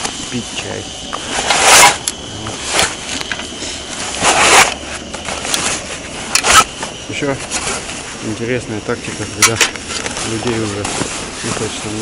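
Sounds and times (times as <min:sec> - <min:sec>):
fabric cover rustling and scraping: 0:01.2 - 0:12.0.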